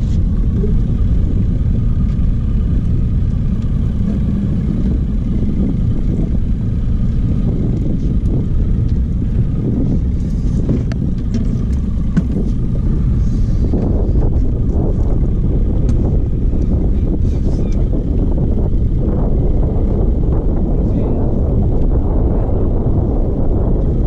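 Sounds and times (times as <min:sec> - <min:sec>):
boat motor running: 0:00.0 - 0:24.0
wind rumbling on microphone: 0:00.0 - 0:24.0.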